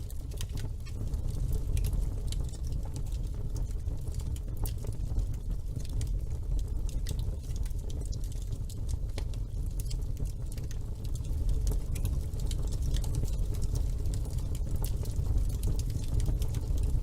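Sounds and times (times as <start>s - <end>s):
burning logs crackling and popping: 0.0s - 17.0s
rumble of flames: 0.0s - 17.0s.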